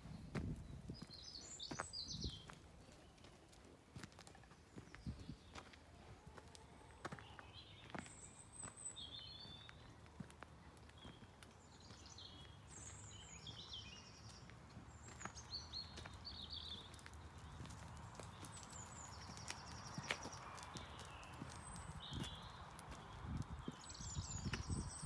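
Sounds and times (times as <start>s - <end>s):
songbirds chirping and trilling: 0.0s - 25.0s
footsteps crunching on gravel: 0.3s - 24.9s.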